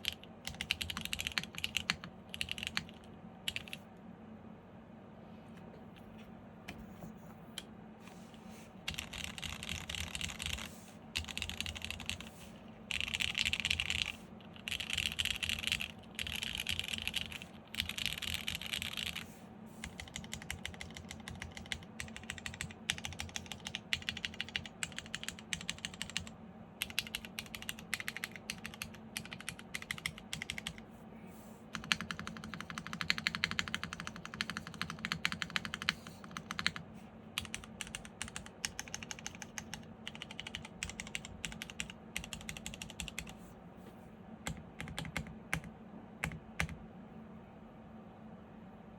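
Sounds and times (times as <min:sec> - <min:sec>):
mechanical keyboard typing: 0:00.0 - 0:03.8, 0:08.9 - 0:30.8, 0:31.7 - 0:36.8, 0:37.4 - 0:43.4, 0:44.4 - 0:46.8.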